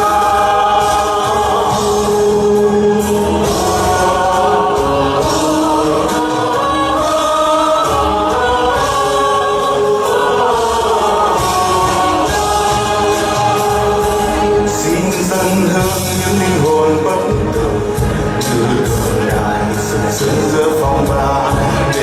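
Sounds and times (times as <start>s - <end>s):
group of voices singing: 0.0s - 22.0s
instrumental accompaniment: 0.0s - 22.0s.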